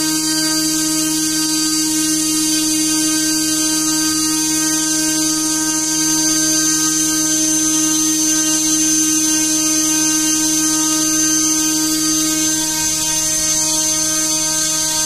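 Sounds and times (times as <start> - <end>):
motor spinning a propeller: 0.0 - 15.0.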